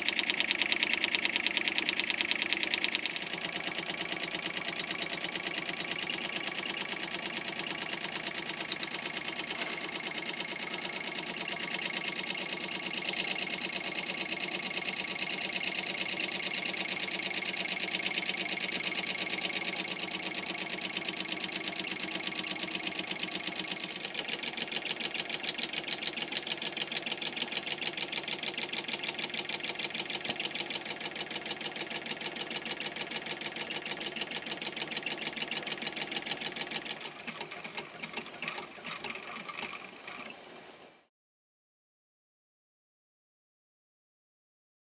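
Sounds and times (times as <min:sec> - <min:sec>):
model steam engine running: 0:00.0 - 0:40.4.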